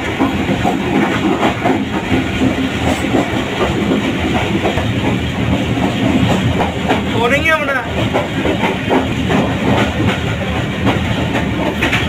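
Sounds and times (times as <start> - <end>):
train rumble: 0.0 - 12.0
wheels clattering over rails: 0.0 - 12.0.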